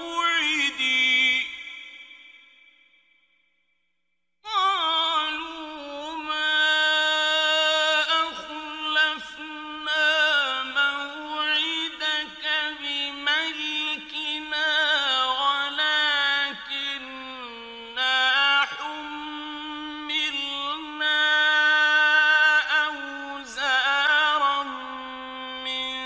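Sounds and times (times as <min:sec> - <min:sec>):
man chanting melodically: 0:00.0 - 0:02.3, 0:04.5 - 0:26.0.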